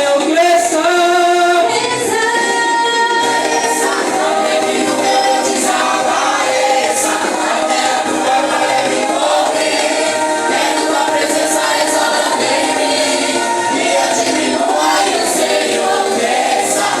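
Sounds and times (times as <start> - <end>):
choir singing worship song: 0.0 - 17.0.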